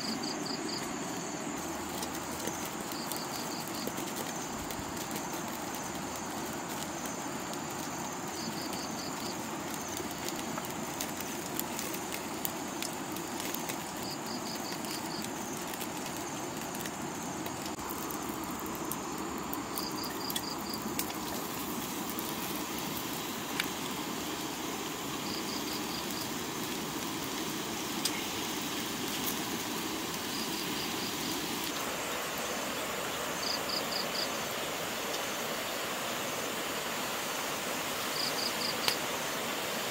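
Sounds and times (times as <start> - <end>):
insect chirping trills: 0.0 - 39.9
wok hissing and crackling: 0.0 - 39.9.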